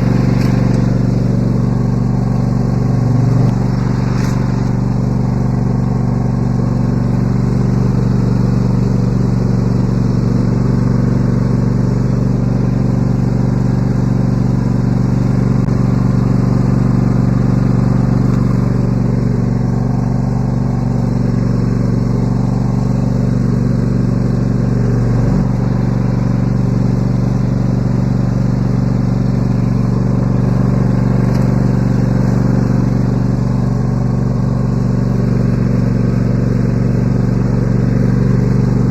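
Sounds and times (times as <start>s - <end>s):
riding lawn mower engine running: 0.0s - 38.9s.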